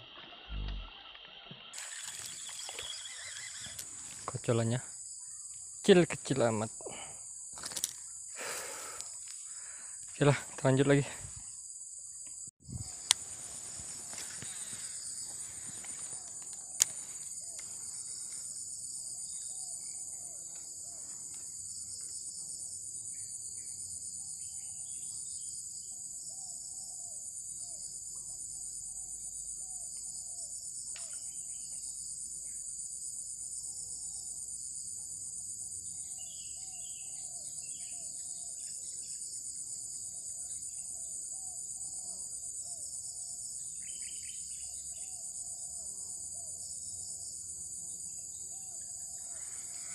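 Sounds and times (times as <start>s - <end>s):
shrill insect chorus: 0.0s - 49.9s.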